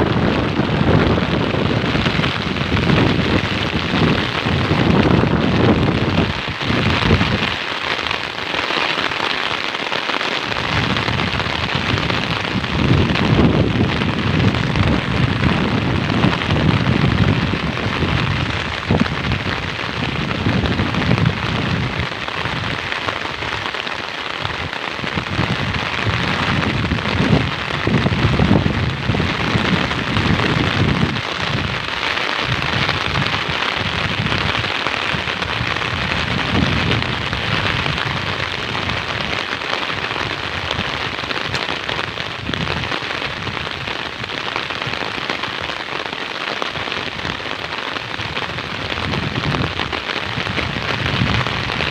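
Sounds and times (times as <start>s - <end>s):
heavy rain hissing: 0.0s - 51.9s.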